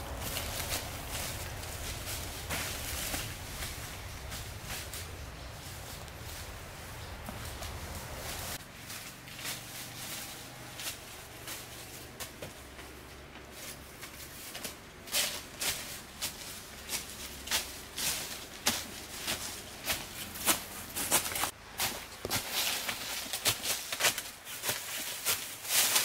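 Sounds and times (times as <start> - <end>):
footsteps on dry leaves: 0.0 - 26.0.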